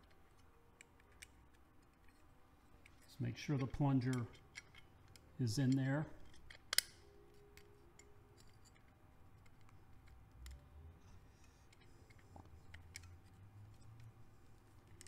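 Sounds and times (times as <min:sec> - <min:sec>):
faint clicks of metal parts: 0:00.0 - 0:15.0.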